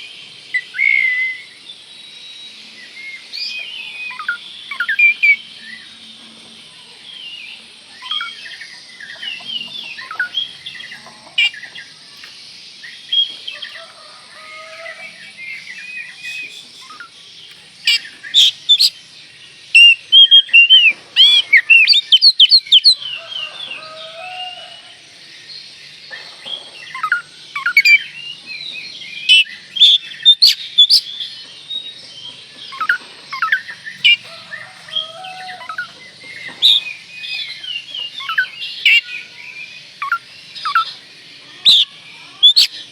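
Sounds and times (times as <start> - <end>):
bird singing whistles and chirps: 0.0 - 6.3, 7.0 - 24.9, 25.7 - 42.9.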